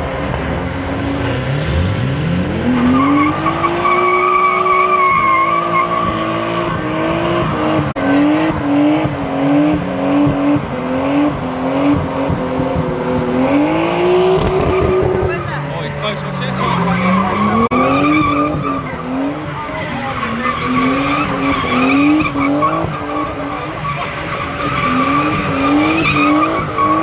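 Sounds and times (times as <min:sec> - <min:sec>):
car engine revving hard: 0:00.0 - 0:27.0
tyres screeching: 0:01.1 - 0:08.8, 0:09.6 - 0:27.0.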